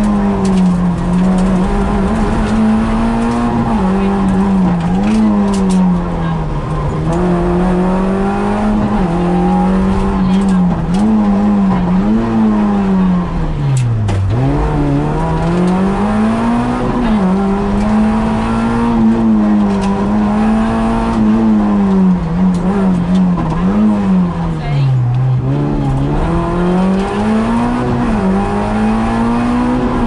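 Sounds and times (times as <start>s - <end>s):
rally car engine at high revs: 0.0s - 30.0s.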